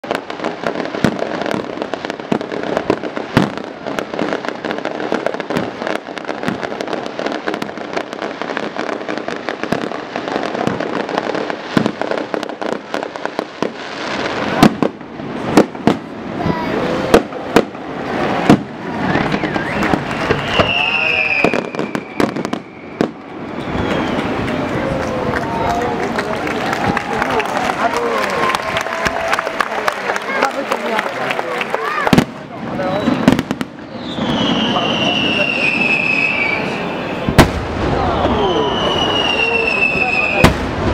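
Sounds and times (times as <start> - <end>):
fireworks bangs: 0.0 - 40.9
fireworks crackling: 0.0 - 40.9.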